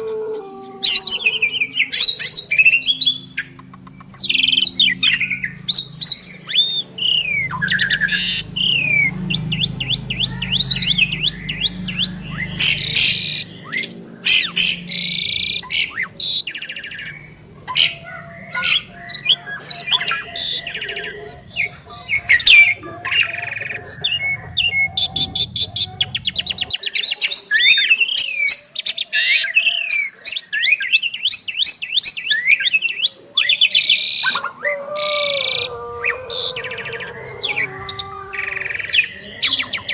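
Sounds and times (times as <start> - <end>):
starlings singing: 0.0 - 39.9.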